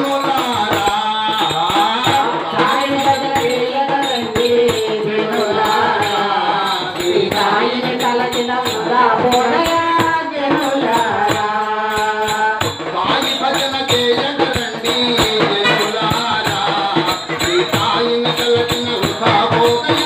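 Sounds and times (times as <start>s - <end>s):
jingling percussion beat: 0.0s - 20.0s
women singing devotional song: 0.0s - 20.0s.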